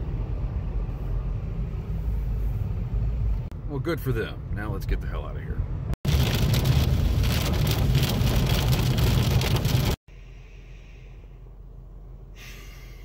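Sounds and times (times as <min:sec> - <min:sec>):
car interior hum: 0:00.0 - 0:13.0
road and tyre noise: 0:00.0 - 0:13.0.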